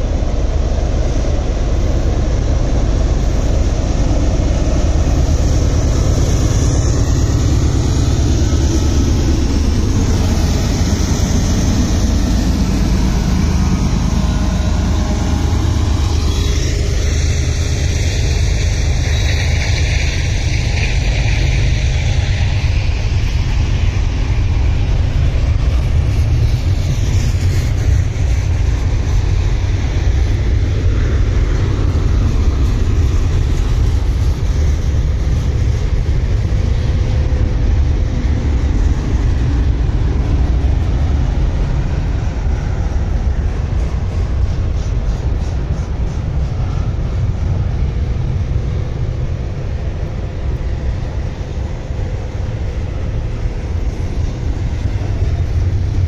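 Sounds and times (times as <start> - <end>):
freight train deep rumble: 0.0 - 56.0.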